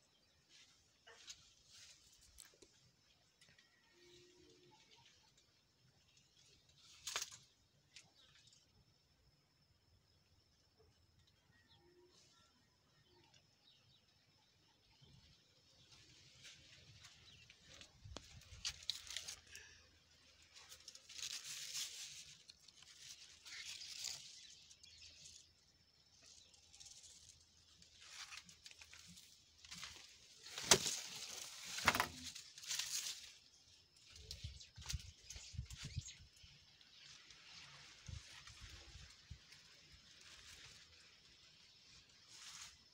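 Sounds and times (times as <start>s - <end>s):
leaves rustling: 0.4s - 3.2s, 4.5s - 8.6s, 15.2s - 42.9s.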